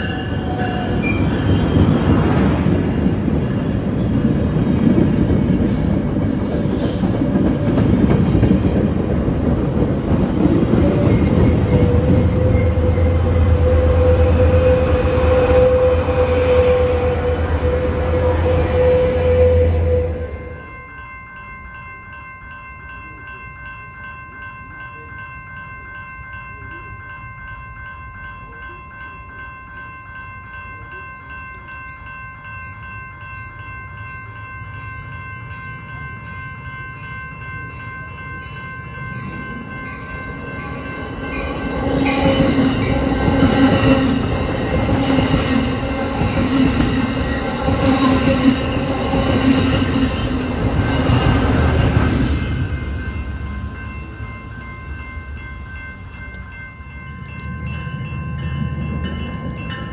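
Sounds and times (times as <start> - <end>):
crossing warning bell ringing: 0.0 - 59.9
passenger train passing: 0.0 - 59.9.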